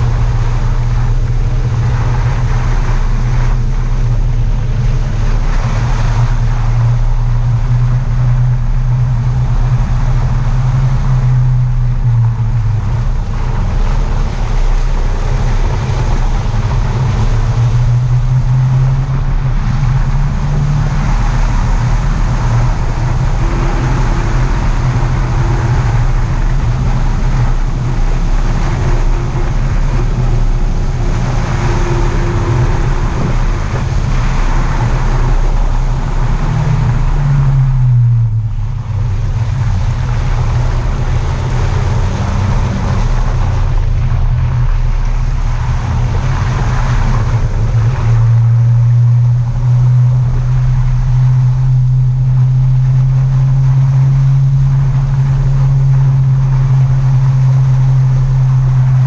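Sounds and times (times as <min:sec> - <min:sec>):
car engine drone: 0:00.0 - 0:59.0
tyre and wind noise: 0:00.0 - 0:59.0.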